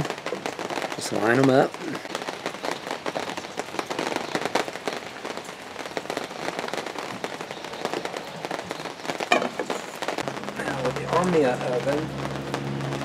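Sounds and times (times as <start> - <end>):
dense crackling patter: 0.0 - 13.0.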